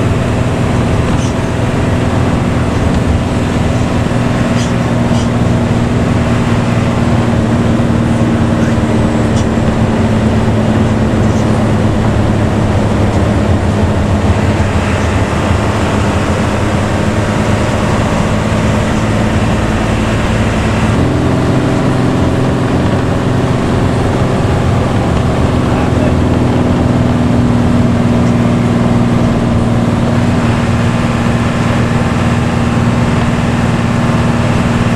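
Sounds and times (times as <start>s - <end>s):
bus diesel engine droning: 0.0s - 34.9s.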